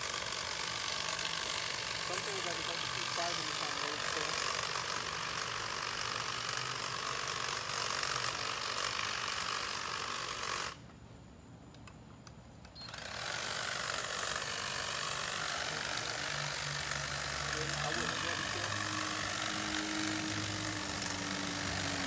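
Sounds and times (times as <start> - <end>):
electric hedge trimmer running: 0.0 - 10.9, 12.8 - 22.0.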